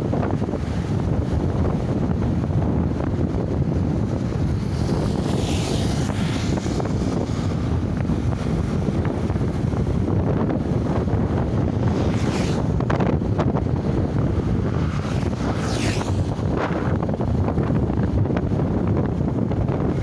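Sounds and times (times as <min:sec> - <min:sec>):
motorcycle engine and road noise: 0:00.0 - 0:20.0
wind buffeting microphone: 0:00.0 - 0:20.0.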